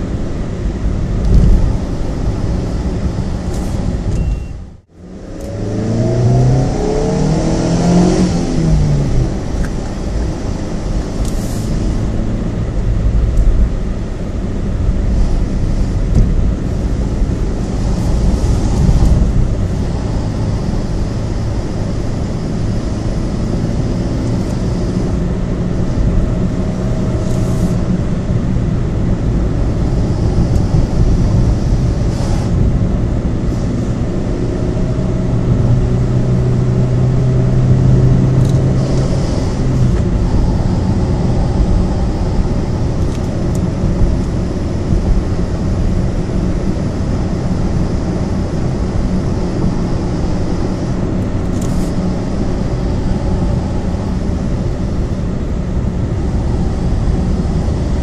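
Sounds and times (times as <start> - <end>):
steady engine hum: 0.0 - 58.0
vehicle engine and road rumble: 0.0 - 58.0.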